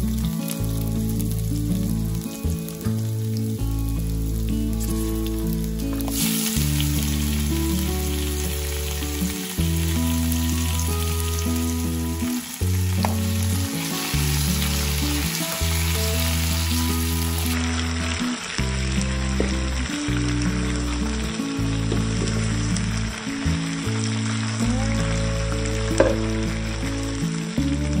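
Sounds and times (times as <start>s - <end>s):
background music with low chords: 0.0s - 28.0s
food sizzling in hot oil: 0.0s - 28.0s.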